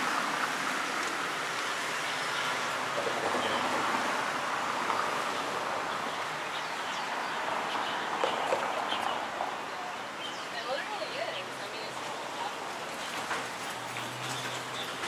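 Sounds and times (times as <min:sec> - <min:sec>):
traffic hum: 0:00.0 - 0:15.0.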